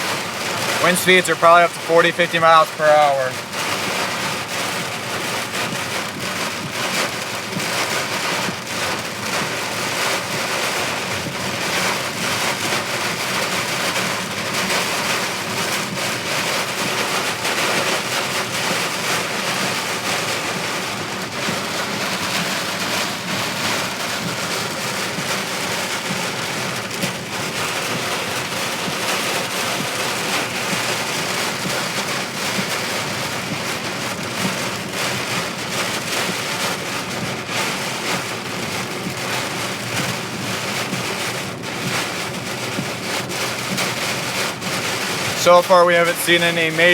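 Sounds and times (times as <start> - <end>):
heavy rain on a car: 0.0 - 46.9.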